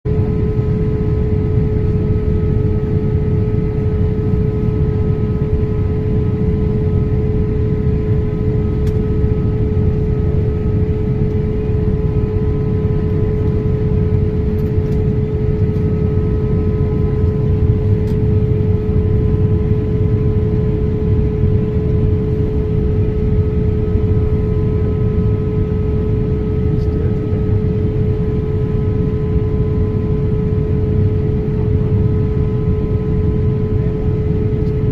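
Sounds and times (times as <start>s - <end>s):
airliner cabin engine rumble: 0.1s - 34.9s
steady hum: 0.1s - 34.9s.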